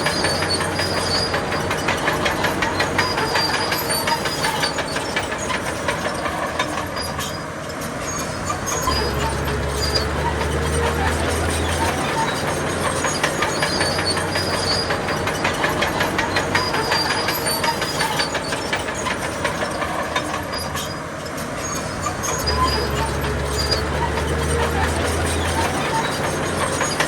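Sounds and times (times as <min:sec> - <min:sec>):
bulldozer engine running: 0:00.0 - 0:27.0
bulldozer tracks clanking: 0:00.0 - 0:27.0.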